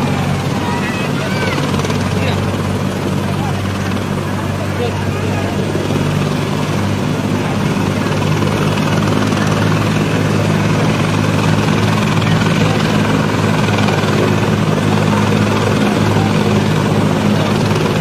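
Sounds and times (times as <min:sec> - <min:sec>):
helicopter rotors droning: 0:00.0 - 0:18.0.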